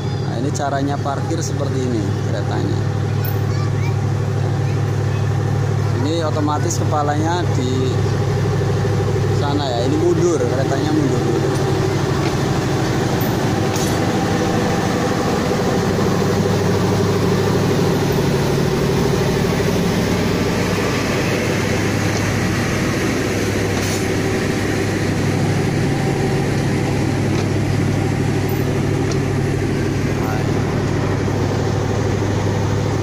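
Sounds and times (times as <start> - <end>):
low engine hum: 0.0 - 33.0
train wheels rumbling on rails: 0.0 - 33.0.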